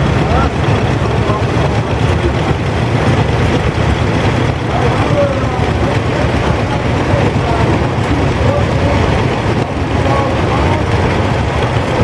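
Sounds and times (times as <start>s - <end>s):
faint voices: 0.0s - 12.0s
tractor engines rumbling: 0.0s - 12.0s.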